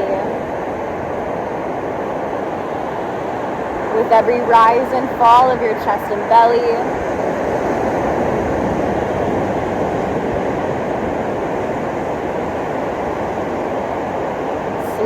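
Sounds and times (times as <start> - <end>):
ocean surf washing on a beach: 0.0 - 15.0.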